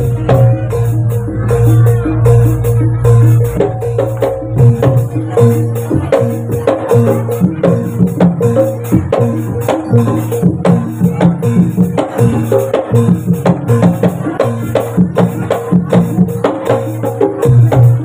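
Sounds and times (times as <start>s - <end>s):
drums: 0.0s - 18.0s
gong-like percussion: 0.0s - 18.0s.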